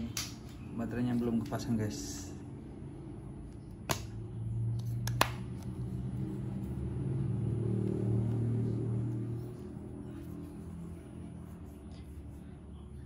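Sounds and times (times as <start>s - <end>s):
low motor drone: 2.0s - 13.0s.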